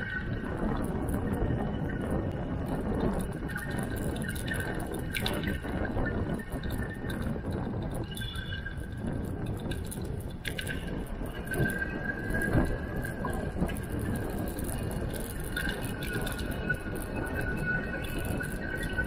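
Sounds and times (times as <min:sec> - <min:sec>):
bicycle tyre rumble: 0:00.0 - 0:19.0
wind on microphone: 0:00.0 - 0:19.0.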